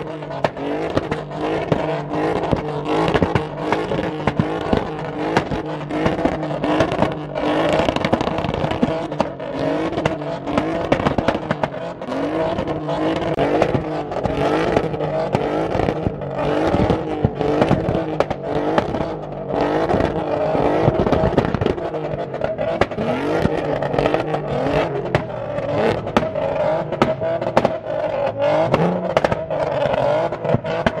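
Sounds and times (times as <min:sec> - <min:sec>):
car engine revving: 0:00.0 - 0:31.0
exhaust pops and bangs: 0:00.0 - 0:31.0.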